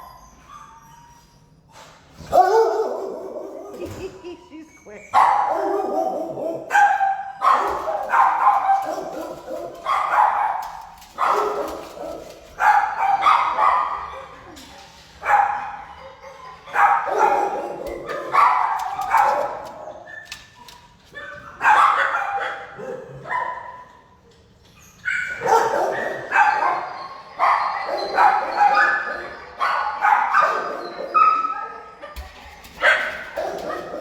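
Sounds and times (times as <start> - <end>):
dogs barking in a kennel: 0.0 - 34.0.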